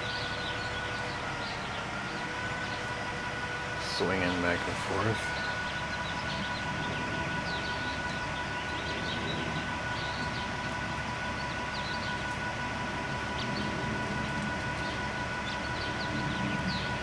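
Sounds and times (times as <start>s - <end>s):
low rumble: 0.0s - 17.0s
small birds chirping: 0.0s - 17.0s
two-note mechanical whine: 0.0s - 17.0s.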